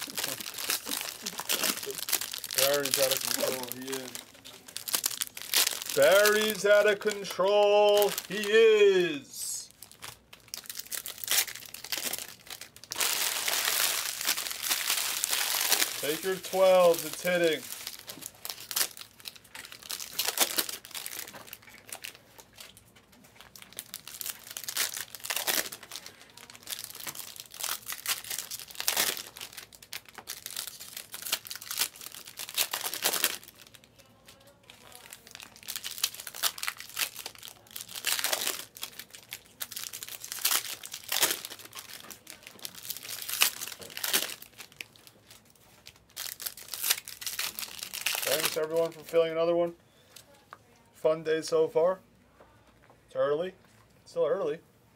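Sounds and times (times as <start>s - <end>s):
card pack wrappers ripping: 0.0s - 22.8s, 23.4s - 49.2s.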